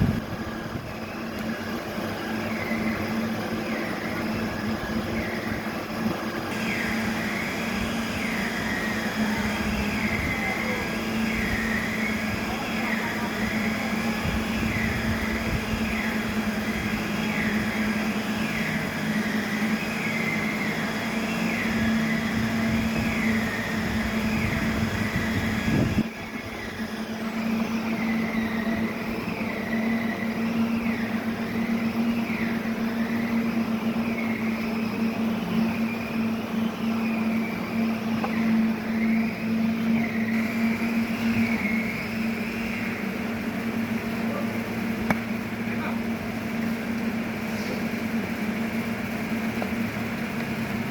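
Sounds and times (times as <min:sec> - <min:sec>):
high rising and falling tone: 0:00.0 - 0:44.1
steady machine hum: 0:00.0 - 0:50.9.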